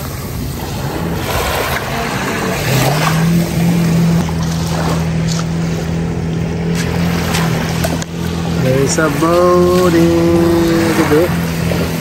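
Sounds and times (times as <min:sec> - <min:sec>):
motorboat engine droning: 0:00.0 - 0:12.0
small waves washing onto sand: 0:00.0 - 0:12.0.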